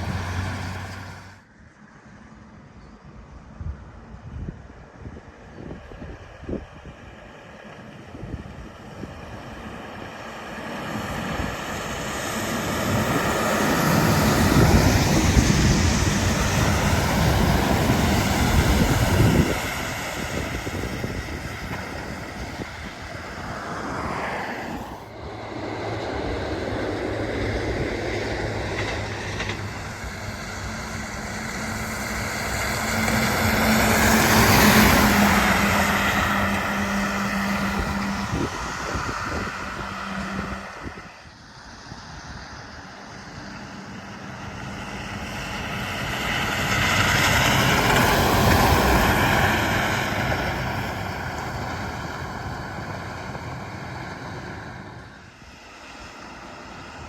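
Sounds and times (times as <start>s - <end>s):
heavy trucks passing: 0.0s - 2.7s, 5.3s - 57.0s.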